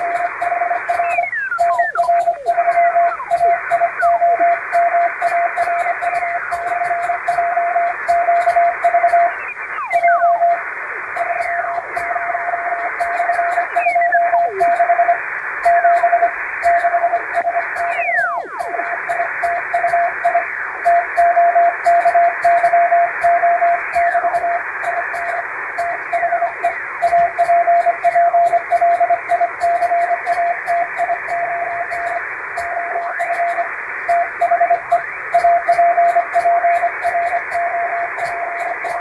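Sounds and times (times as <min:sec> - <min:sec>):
falling radio whistles: 0:00.0 - 0:39.0
morse code tone: 0:00.0 - 0:39.0
radio hiss: 0:00.0 - 0:39.0.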